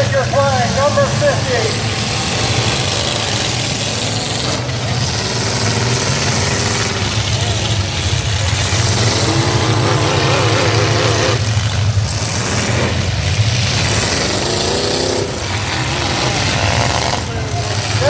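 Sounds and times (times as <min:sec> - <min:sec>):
pickup truck engines rumbling: 0:00.0 - 0:18.0.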